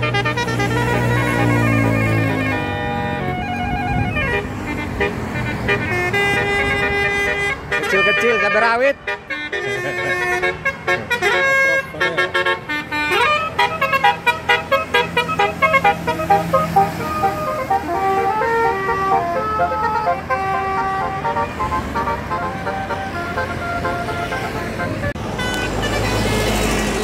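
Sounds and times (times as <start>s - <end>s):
musical air horn playing a tune: 0.0s - 26.8s.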